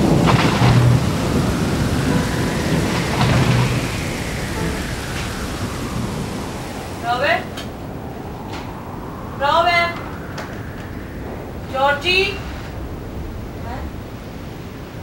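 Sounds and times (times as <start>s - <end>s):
heavy rain: 0.0s - 15.0s
rolling thunder: 0.0s - 15.0s.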